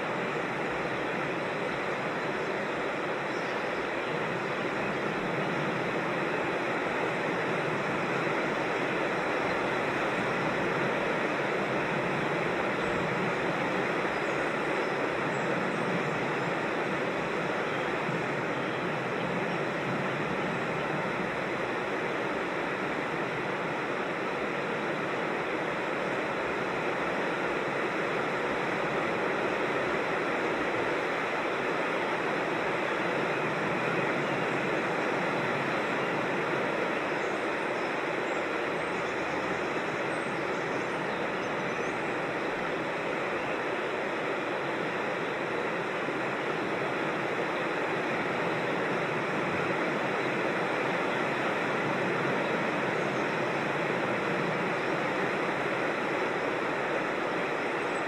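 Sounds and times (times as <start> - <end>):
water rushing over rocks: 3.8 - 58.0.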